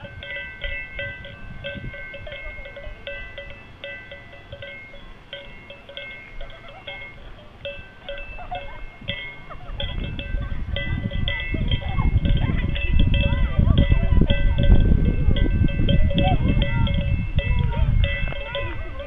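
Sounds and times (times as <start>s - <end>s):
small metal bells jangling: 0.0s - 19.0s.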